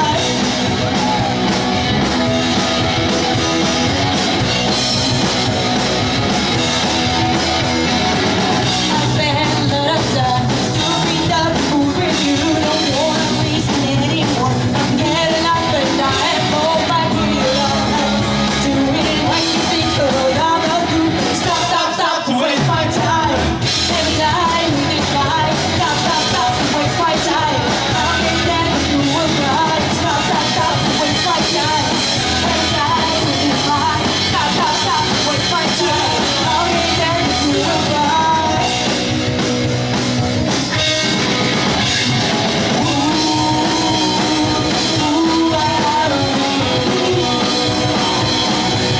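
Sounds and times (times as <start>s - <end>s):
distorted electric guitars: 0.0s - 22.0s, 22.6s - 48.9s
person singing: 0.0s - 39.5s, 41.8s - 48.9s
drums: 0.0s - 48.9s.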